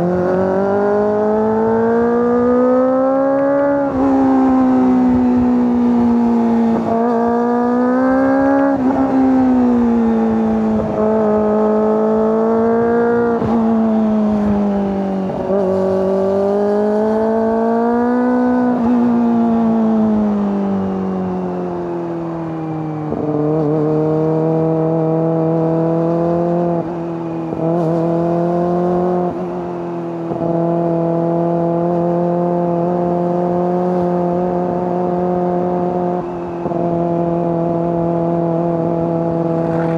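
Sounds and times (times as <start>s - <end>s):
motorcycle engine revving: 0.0s - 22.2s, 23.0s - 39.9s.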